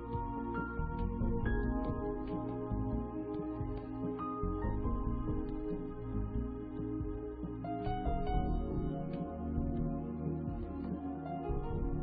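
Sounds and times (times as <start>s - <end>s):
soft ambient music: 0.0s - 12.0s.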